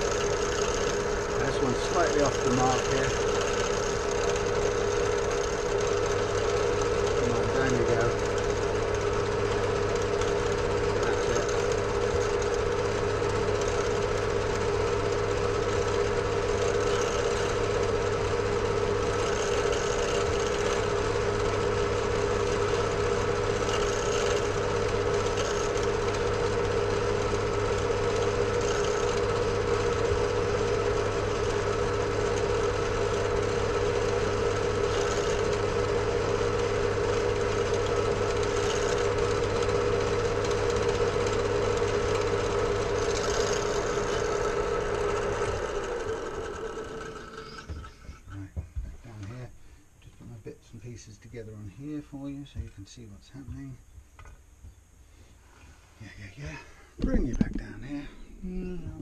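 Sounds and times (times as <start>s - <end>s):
drill bit drilling through bone: 0.0s - 48.4s
drill press motor humming: 0.0s - 55.4s.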